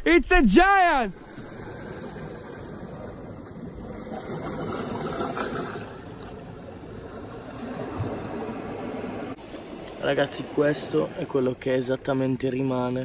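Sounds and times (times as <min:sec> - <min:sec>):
sea washing against rocky shore: 0:01.1 - 0:12.4.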